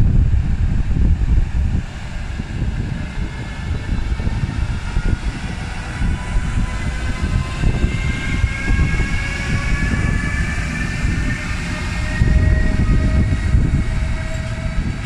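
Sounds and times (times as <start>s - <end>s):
electric locomotive whine: 0.0s - 15.0s
steady low rumble: 0.0s - 15.0s.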